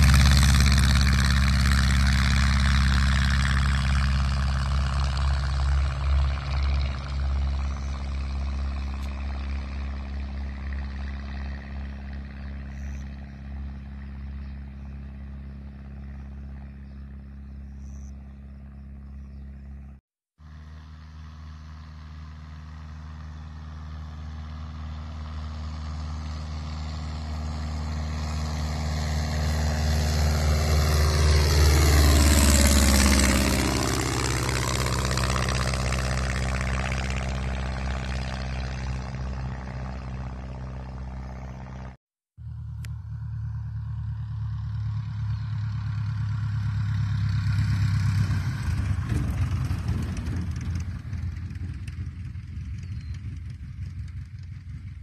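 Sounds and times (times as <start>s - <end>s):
light plane engine and propeller drone: 0.0s - 55.0s.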